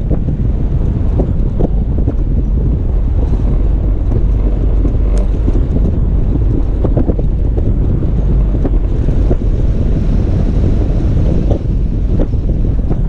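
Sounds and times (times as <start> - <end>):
vehicle and tyres rumbling: 0.0 - 13.0
wind buffeting microphone: 0.0 - 13.0.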